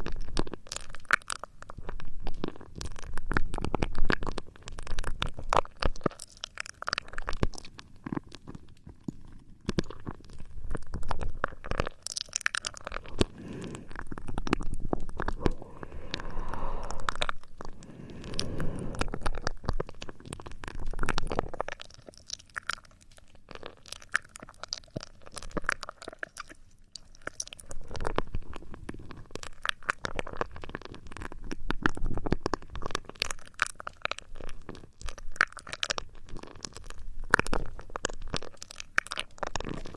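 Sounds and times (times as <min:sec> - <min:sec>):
crackling and scratching at microphone: 0:00.0 - 0:39.9.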